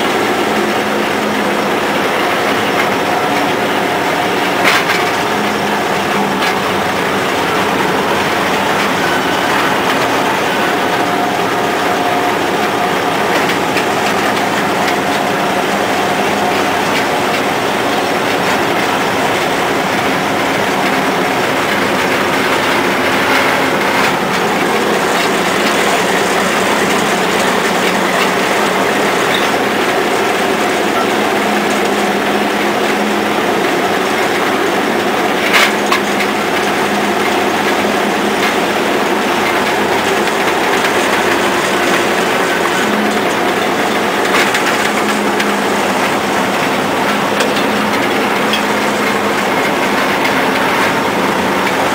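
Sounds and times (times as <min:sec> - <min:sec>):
crane drums and gears rattling: 0:00.0 - 0:51.9
diesel engine running: 0:00.0 - 0:51.9.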